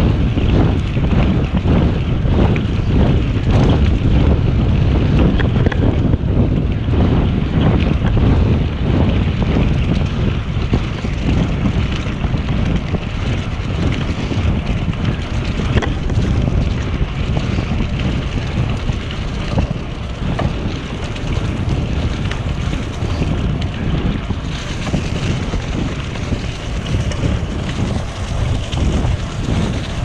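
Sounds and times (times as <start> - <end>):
bike tyres rolling on leaves: 0.0 - 30.0
wind buffeting microphone: 0.0 - 30.0.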